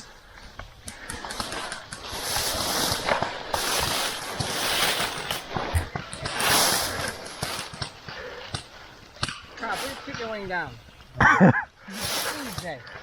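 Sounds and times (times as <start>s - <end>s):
rustling noise: 0.0s - 13.0s.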